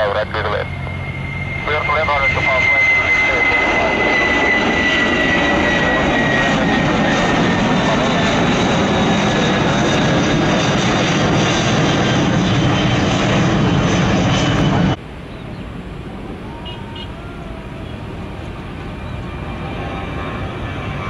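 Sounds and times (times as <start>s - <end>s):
distant jet taking off: 0.0s - 21.0s
jet engines roaring at takeoff: 0.0s - 21.0s.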